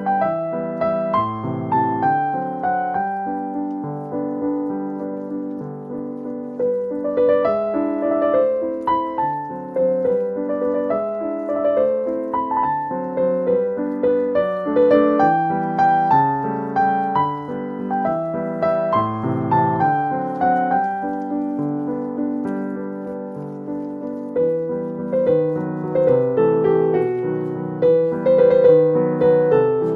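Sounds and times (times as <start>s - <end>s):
gentle piano music: 0.0s - 29.9s.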